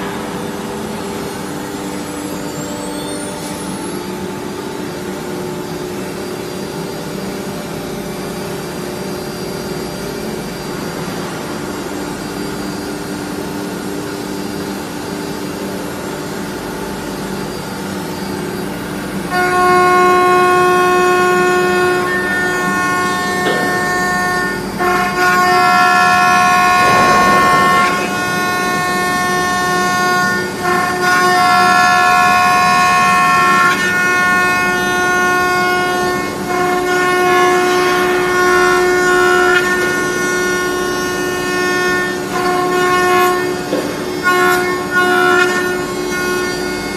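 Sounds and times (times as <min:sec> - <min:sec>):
machine hum: 0:00.0 - 0:46.9
router spindle high whine: 0:00.0 - 0:46.9.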